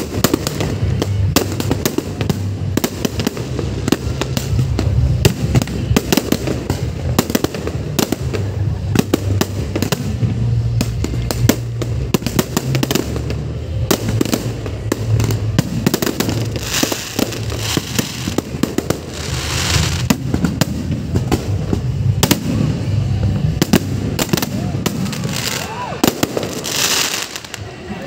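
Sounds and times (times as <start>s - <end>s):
crackling hiss of fireworks: 0.0s - 28.0s.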